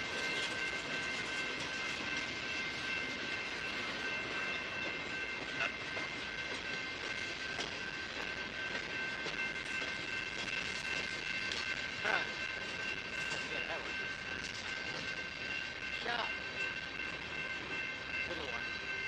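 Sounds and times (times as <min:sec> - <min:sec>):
freight train rumbling past: 0:00.0 - 0:19.0
high-pitched ringing tone: 0:00.0 - 0:19.0.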